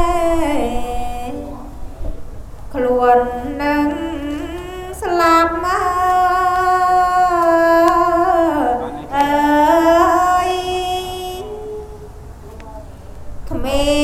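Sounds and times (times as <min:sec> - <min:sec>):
person chanting verse unaccompanied: 0:00.0 - 0:14.0.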